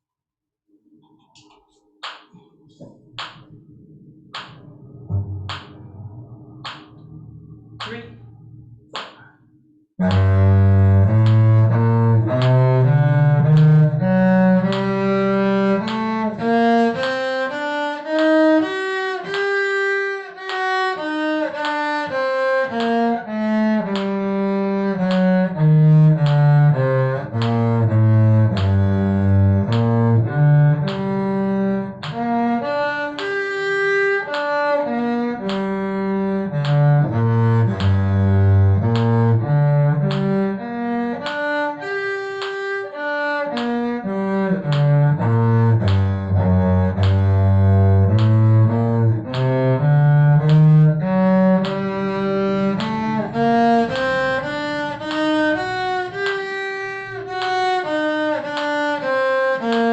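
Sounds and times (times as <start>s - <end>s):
cello bowing a scale: 10.0s - 59.9s.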